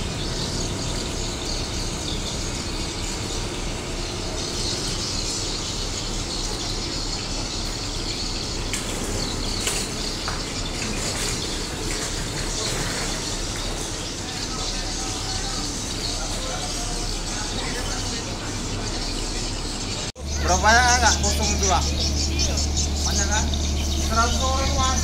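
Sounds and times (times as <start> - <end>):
churning water rushing: 0.0 - 25.0
low engine rumble: 0.0 - 25.0.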